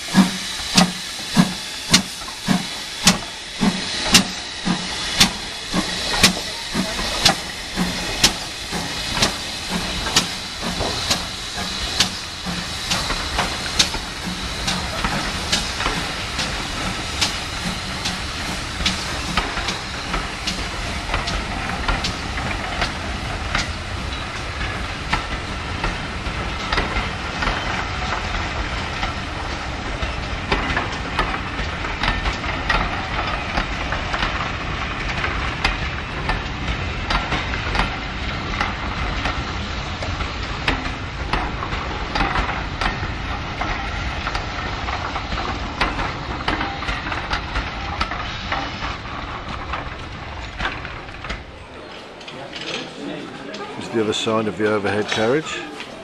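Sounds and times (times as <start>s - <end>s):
train rumble: 0.0s - 56.0s
wheels clicking over rail joints: 0.1s - 56.0s.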